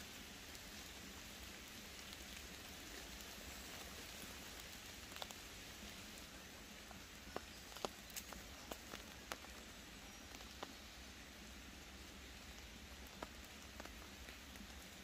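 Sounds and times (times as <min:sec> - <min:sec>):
rain hissing in woodland: 0:00.0 - 0:15.0.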